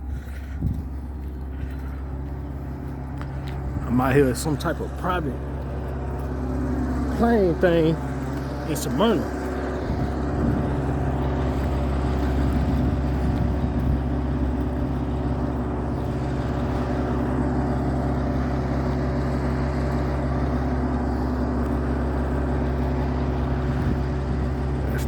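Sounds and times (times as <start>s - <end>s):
low engine drone: 0.0s - 25.0s.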